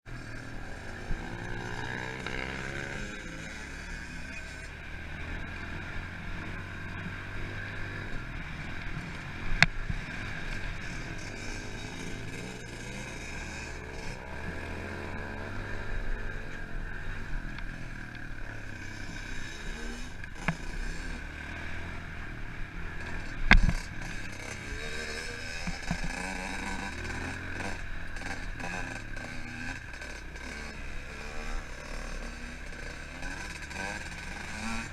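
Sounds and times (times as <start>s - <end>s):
pit bike engine revving: 0.1s - 34.9s.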